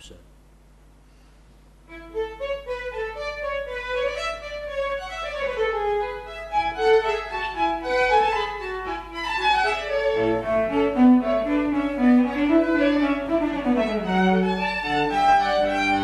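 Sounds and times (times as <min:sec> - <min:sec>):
violin melody: 0:01.9 - 0:16.0
bowed strings: 0:02.6 - 0:16.0.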